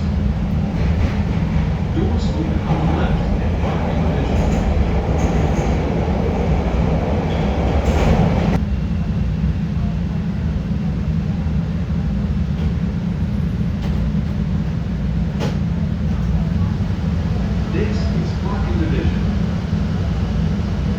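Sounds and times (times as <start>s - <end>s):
subway train rumble: 0.0s - 20.9s.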